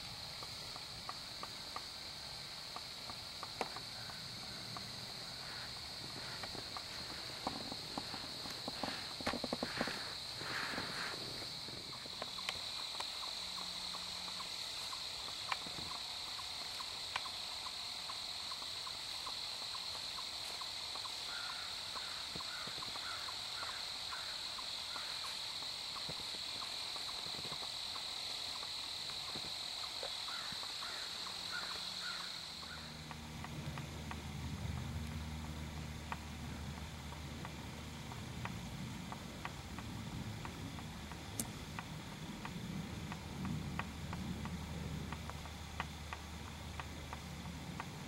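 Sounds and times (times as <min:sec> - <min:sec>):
faint chirps: 0:00.0 - 0:47.2
high-pitched insect drone: 0:00.0 - 0:48.0.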